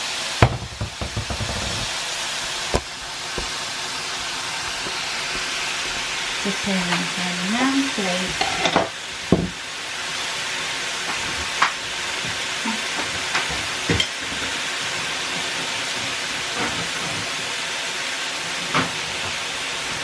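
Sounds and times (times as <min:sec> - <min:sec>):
steaks sizzling on a grill: 0:00.0 - 0:20.0.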